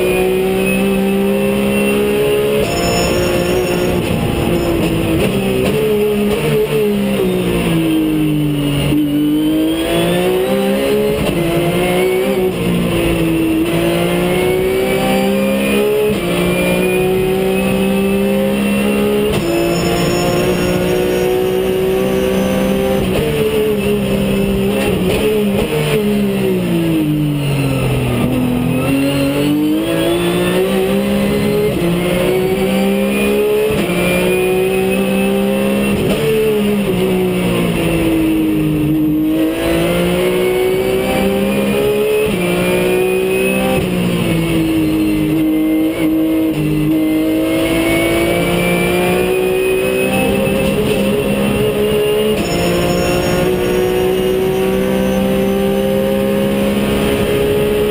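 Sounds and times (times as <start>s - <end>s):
race car engine accelerating: 0.0s - 57.9s.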